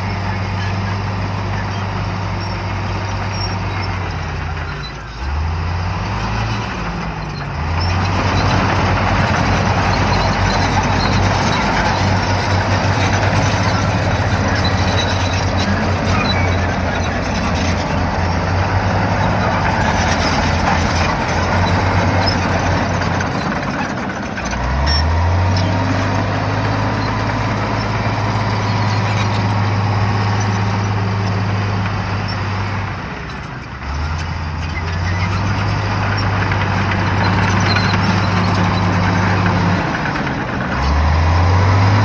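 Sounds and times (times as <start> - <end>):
bulldozer diesel engine: 0.0 - 42.0.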